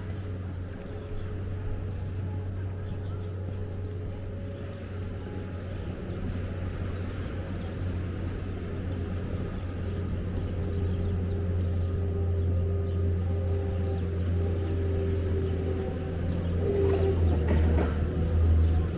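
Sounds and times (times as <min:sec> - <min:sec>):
street noise: 0:00.0 - 0:18.9
vehicle engine humming: 0:00.0 - 0:18.9.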